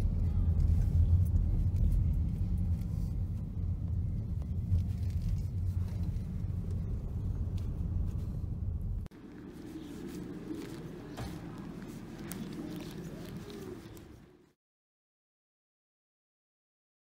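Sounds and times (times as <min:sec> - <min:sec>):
car rumbling on gravel road: 0:00.0 - 0:14.2.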